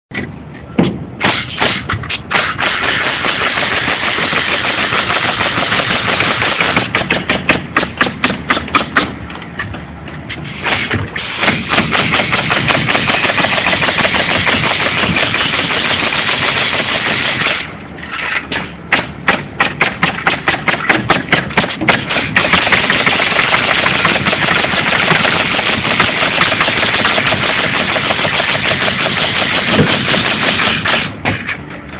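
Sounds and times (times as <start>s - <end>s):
pneumatic nailer firing nails: 0.8s - 9.2s, 10.4s - 31.6s.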